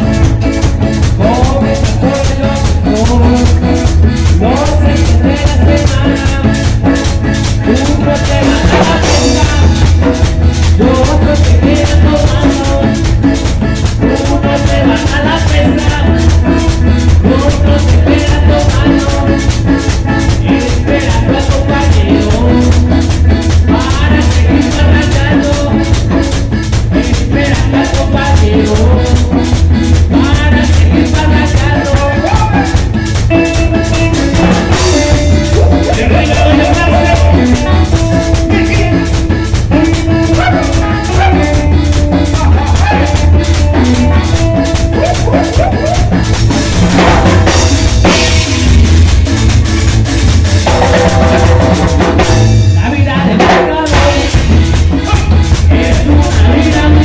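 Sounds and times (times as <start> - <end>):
shaken hand percussion: 0.0 - 52.8, 53.4 - 57.0
congas: 0.0 - 57.0
drum kit: 0.0 - 57.0
electric guitar: 0.0 - 57.0
man singing: 0.0 - 57.0.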